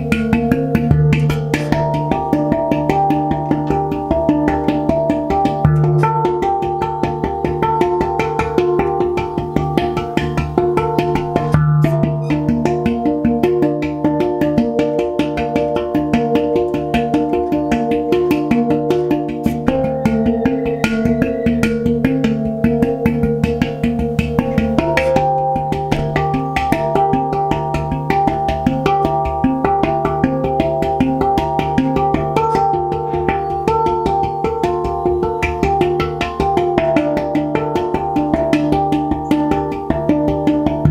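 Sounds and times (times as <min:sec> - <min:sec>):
handpan played by hand: 0:00.0 - 0:40.9.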